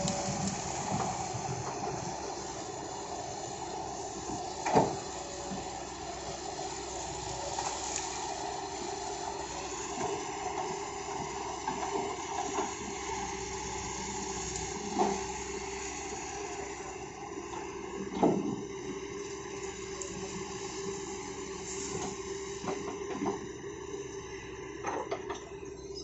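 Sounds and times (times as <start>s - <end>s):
excavator running: 0.0s - 26.0s.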